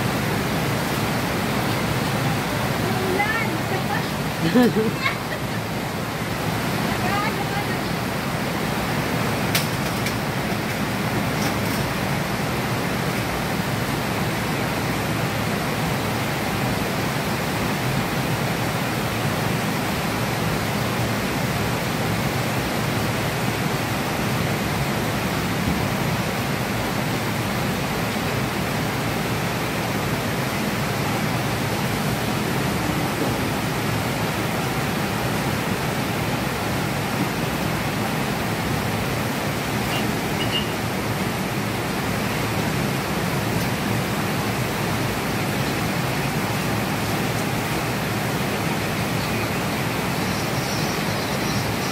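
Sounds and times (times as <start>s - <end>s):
heavy rain on foliage: 0.0s - 51.9s.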